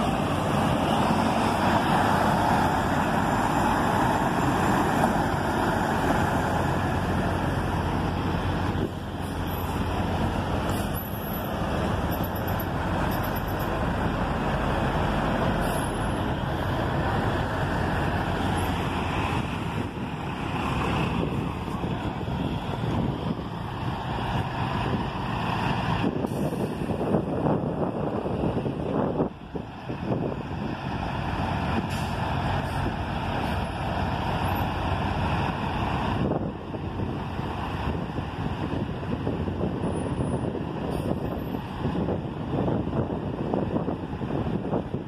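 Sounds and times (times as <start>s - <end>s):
diesel truck engine running: 0.0s - 45.0s.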